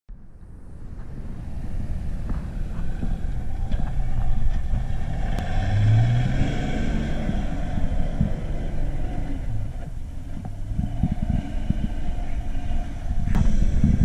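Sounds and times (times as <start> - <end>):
diesel truck engine under load: 0.1 - 14.0.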